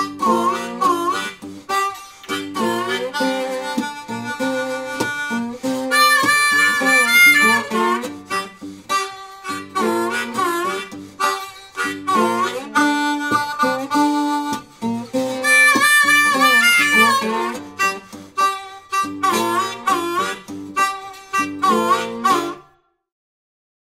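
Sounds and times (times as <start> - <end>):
acoustic guitar: 0.0 - 22.7
blues harmonica: 0.0 - 22.8.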